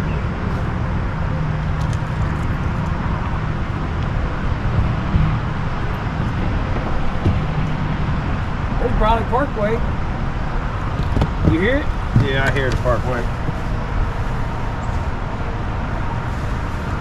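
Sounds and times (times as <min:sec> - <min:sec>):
distant road traffic hiss: 0:00.0 - 0:17.0.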